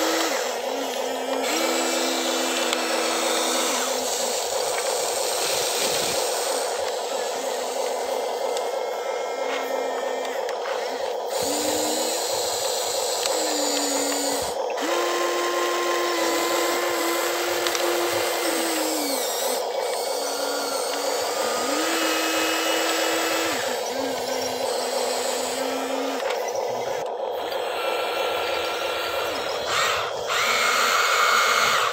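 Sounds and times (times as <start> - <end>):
steady hum: 0.0 - 31.9
toy excavator motors whirring: 0.0 - 31.9.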